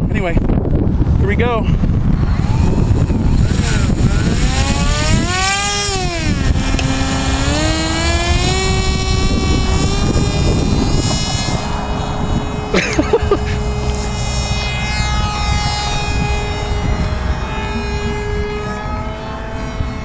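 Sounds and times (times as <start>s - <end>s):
wind rumbling on microphone: 0.0s - 20.0s
model airplane motor whining: 1.8s - 20.0s.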